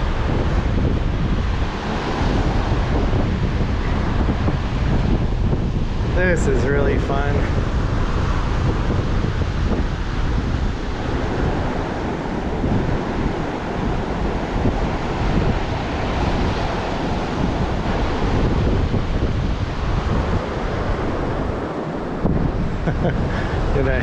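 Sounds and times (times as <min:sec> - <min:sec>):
surf washing on beach: 0:00.0 - 0:24.0
wind buffeting microphone: 0:00.0 - 0:24.0.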